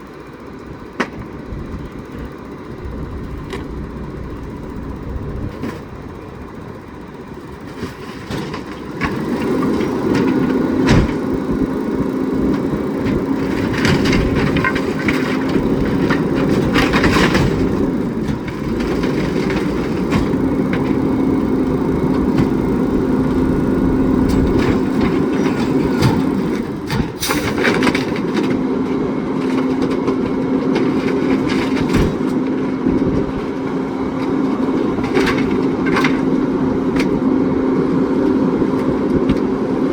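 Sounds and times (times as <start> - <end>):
garbage truck packer whine: 0.0 - 39.9.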